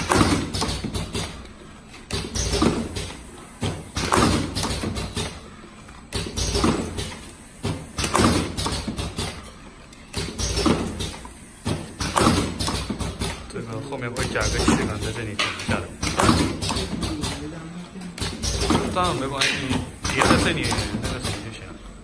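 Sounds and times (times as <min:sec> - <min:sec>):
cartoning machine clunking: 0:00.0 - 0:21.7.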